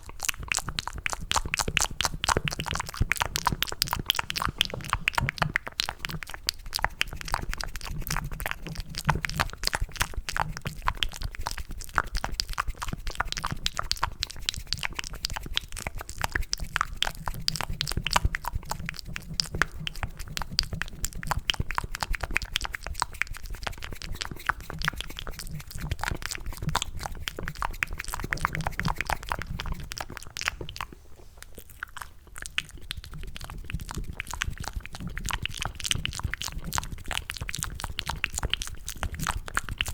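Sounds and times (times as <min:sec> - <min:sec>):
wet mouth clicks and smacks: 0:00.0 - 0:39.9.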